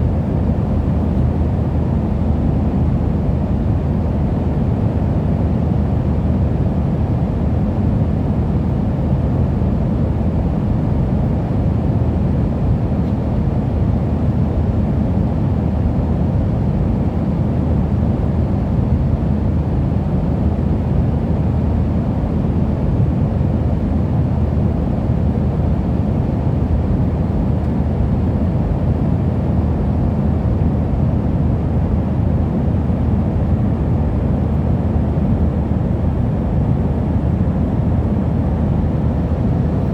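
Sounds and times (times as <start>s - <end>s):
aeroplane cabin engine rumble: 0.0s - 39.9s.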